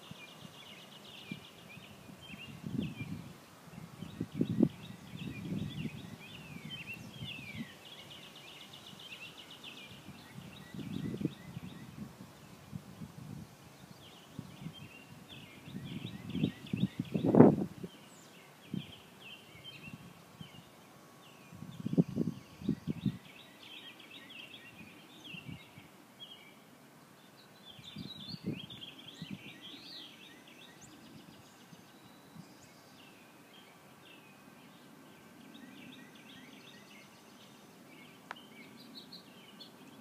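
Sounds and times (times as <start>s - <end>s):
birds chirping: 0.0s - 13.1s, 13.7s - 40.0s
faint outdoor hiss: 0.0s - 40.0s.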